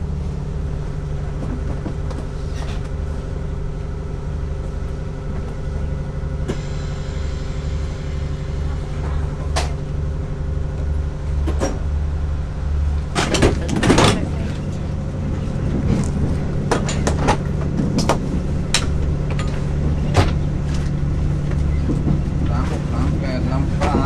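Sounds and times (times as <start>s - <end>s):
train rumbling inside carriage: 0.0s - 24.0s.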